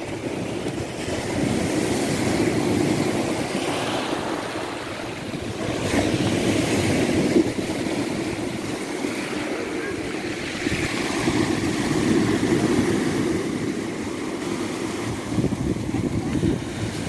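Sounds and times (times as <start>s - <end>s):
sea surf breaking: 0.0s - 17.0s
wind on microphone: 0.0s - 17.0s.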